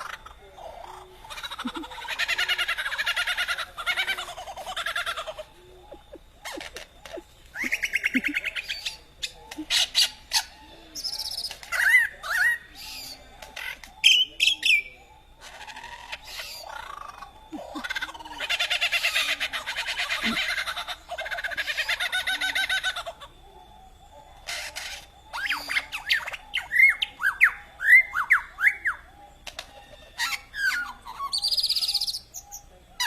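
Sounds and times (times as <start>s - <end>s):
lyrebird singing: 0.0s - 33.0s.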